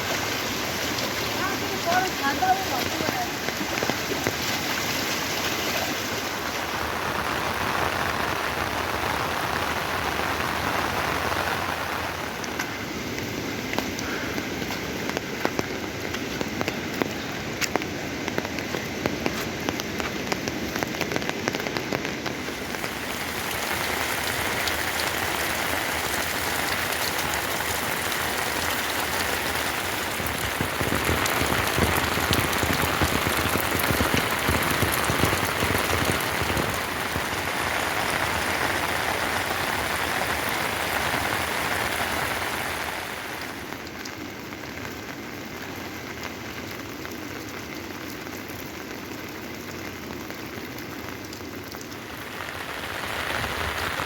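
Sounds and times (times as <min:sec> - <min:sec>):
heavy rain falling: 0:00.0 - 0:54.0
raindrops clicking: 0:00.1 - 0:54.0.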